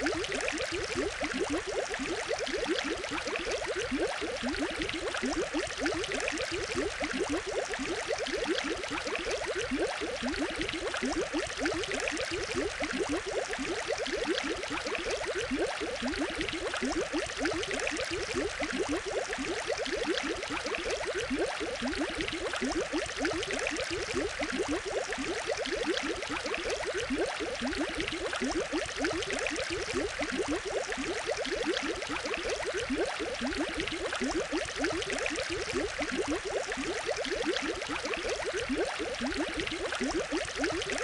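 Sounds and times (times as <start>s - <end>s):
aquarium water bubbling: 0.0s - 41.0s.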